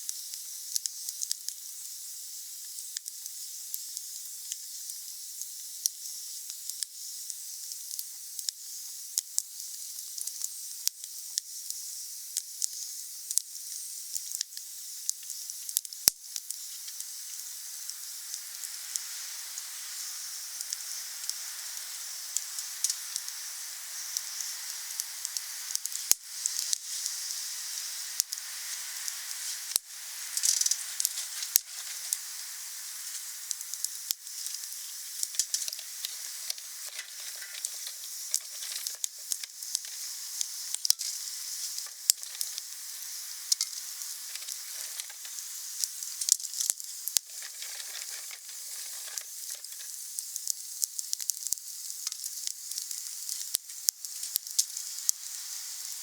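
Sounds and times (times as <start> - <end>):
bonfire crackling and hissing: 0.0 - 56.0.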